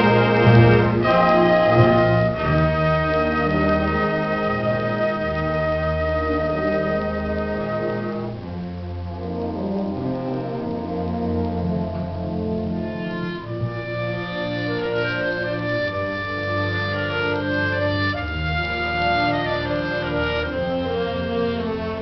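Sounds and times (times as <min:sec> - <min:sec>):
concert band playing: 0:00.0 - 0:22.0.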